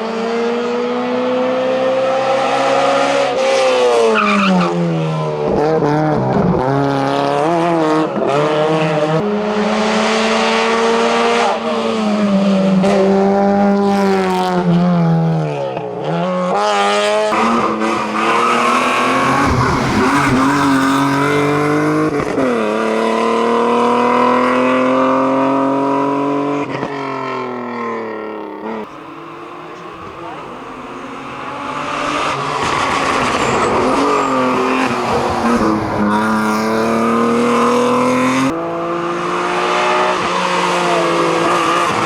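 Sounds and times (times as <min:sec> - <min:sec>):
race car engine at high revs: 0:00.0 - 0:42.0.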